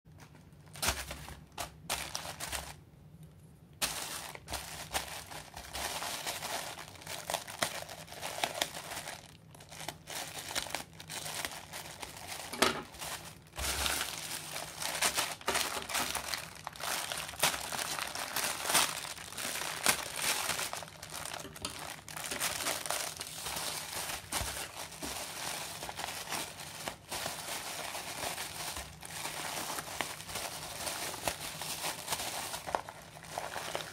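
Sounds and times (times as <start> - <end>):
plastic mailer bags crinkling: 0.2 - 2.8, 3.8 - 33.9.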